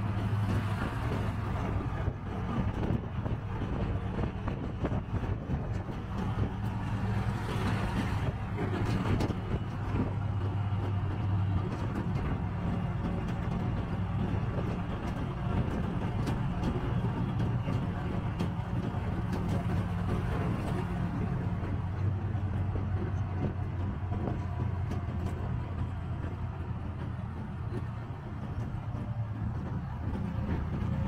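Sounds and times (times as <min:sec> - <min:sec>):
auto-rickshaw engine running: 0:00.0 - 0:31.0
road and traffic noise: 0:00.0 - 0:31.0.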